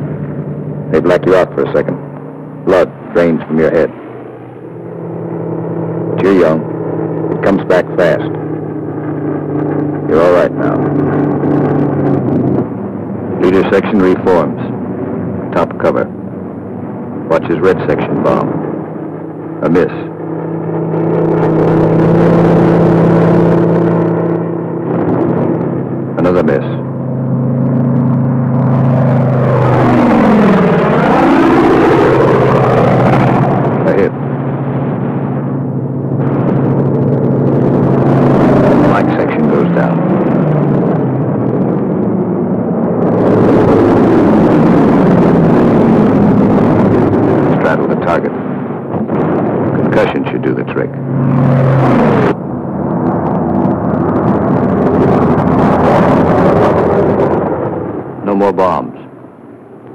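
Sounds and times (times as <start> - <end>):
aircraft engine droning: 0.0 - 59.9.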